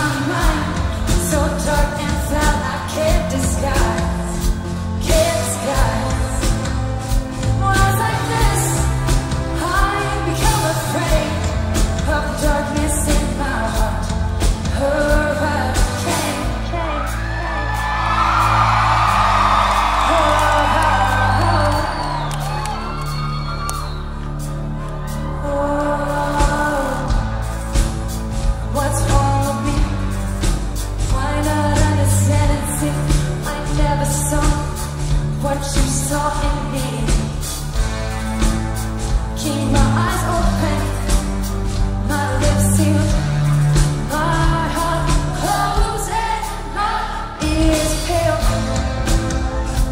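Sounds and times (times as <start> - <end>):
woman singing into microphone: 0.0 - 17.9, 19.7 - 22.8, 25.1 - 27.6, 28.6 - 30.4, 31.0 - 37.5, 39.4 - 49.9
drum kit: 0.0 - 25.3, 26.1 - 49.9
bass notes: 0.0 - 49.9
live pop band playing: 0.0 - 49.9.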